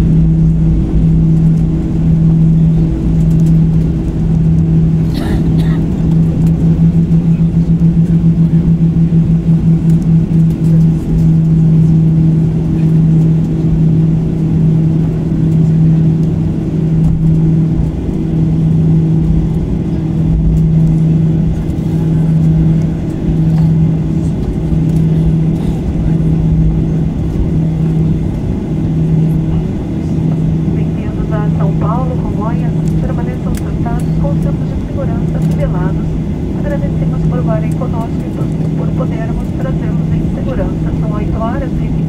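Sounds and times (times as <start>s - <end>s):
jet engines idling: 0.0s - 42.0s
wheels and airframe rumble: 0.0s - 42.0s.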